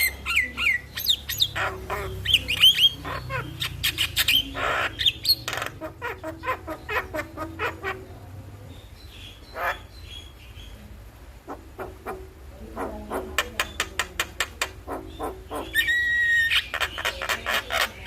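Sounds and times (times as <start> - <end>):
myna chattering: 0.0 - 18.0.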